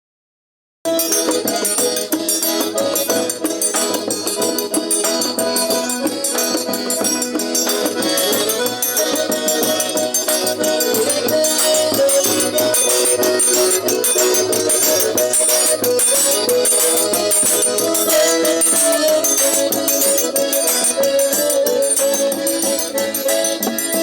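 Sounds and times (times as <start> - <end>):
accordion playing folk tune: 0.9 - 24.0
rattling hand percussion: 0.9 - 24.0.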